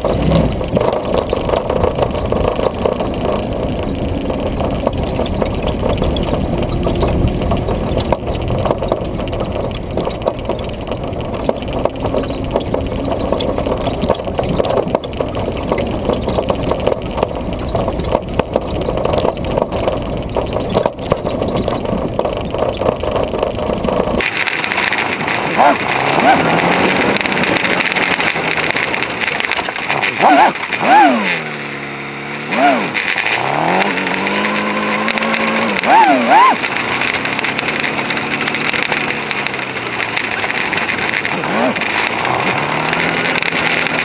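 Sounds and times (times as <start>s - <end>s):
jeep engine running: 0.0s - 44.0s.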